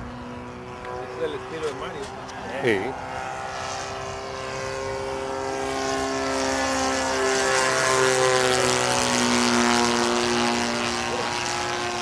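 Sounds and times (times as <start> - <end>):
model airplane engine drone: 0.0 - 12.0.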